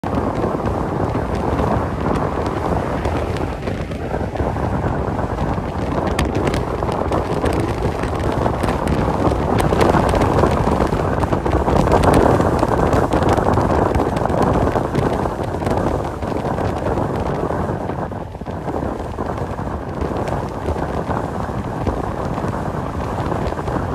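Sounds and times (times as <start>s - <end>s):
truck driving at highway speed: 0.0s - 23.9s.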